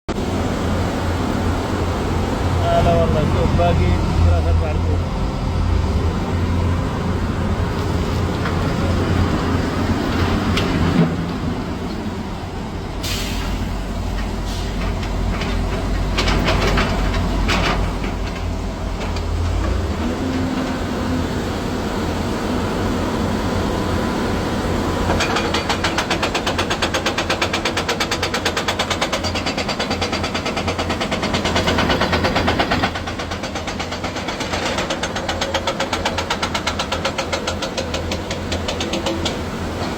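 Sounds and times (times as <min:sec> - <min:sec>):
diesel engine rumbling and clattering: 0:00.1 - 0:39.9.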